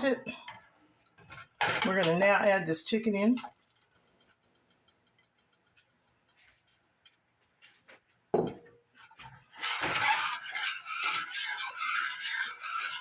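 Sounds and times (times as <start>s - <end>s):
metal spoon stirring in a pot: 0.0s - 7.2s, 9.0s - 13.0s.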